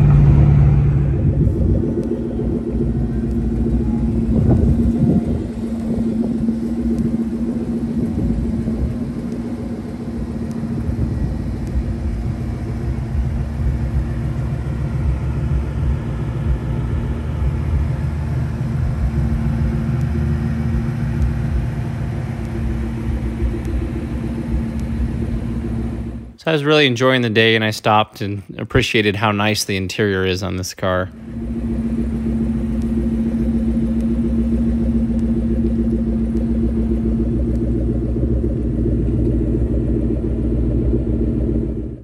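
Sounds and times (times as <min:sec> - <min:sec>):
car engine idling: 0:00.0 - 0:27.8, 0:28.5 - 0:42.0.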